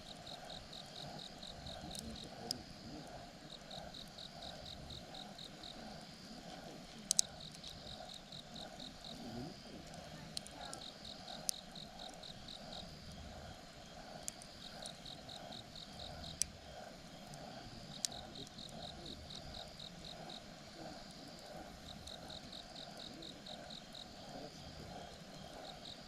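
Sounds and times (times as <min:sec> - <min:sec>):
campfire crackling and popping: 0:00.0 - 0:26.0
insects chirping: 0:00.0 - 0:26.0.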